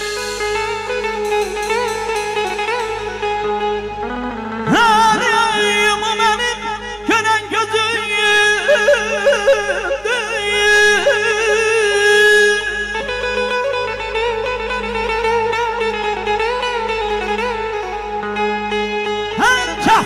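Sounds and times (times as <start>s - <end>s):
band holding notes: 0.0s - 20.0s.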